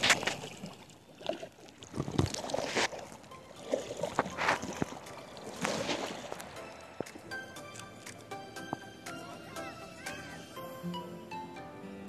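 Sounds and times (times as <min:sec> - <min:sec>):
water splashing around kayak: 0:00.0 - 0:10.4
paddle splashing: 0:00.0 - 0:10.6.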